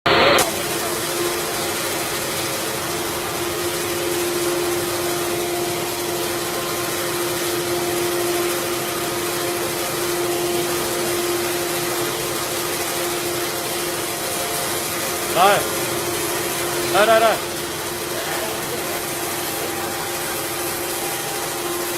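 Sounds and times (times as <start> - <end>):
wood router whining: 0.1 - 21.9.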